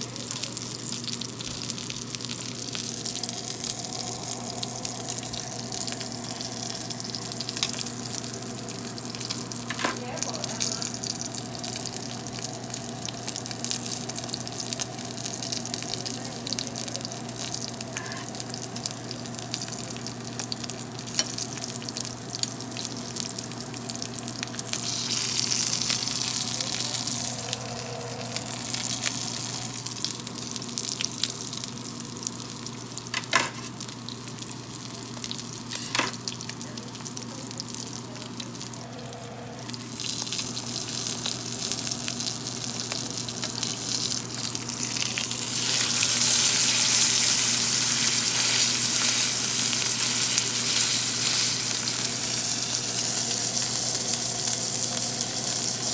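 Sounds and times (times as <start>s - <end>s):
meat sizzling in a skillet: 0.0s - 55.9s
steady low hum: 0.0s - 55.9s.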